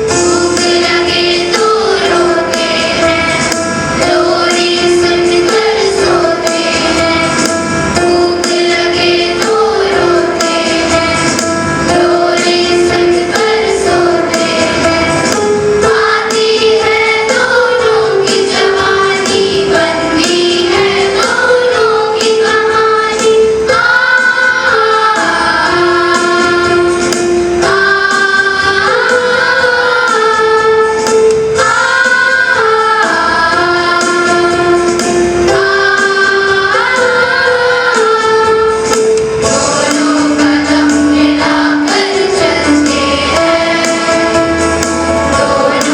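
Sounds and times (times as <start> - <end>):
instrumental backing with percussion: 0.0 - 45.9.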